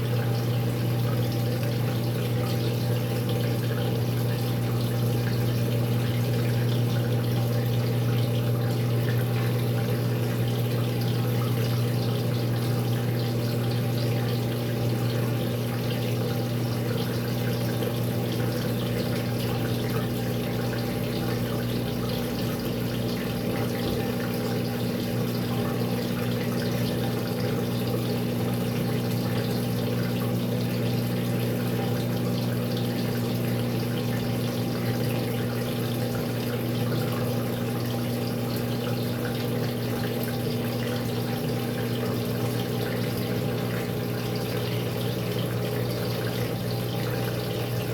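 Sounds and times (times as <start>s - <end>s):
washing machine humming: 0.0s - 47.9s.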